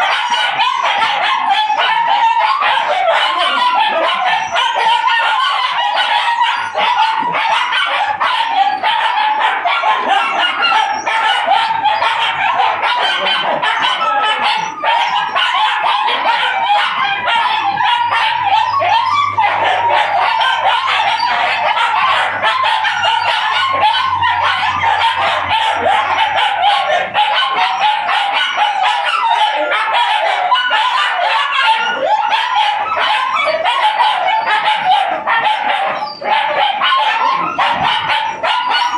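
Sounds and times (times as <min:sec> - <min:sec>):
puppies barking and yipping: 0:00.0 - 0:38.9.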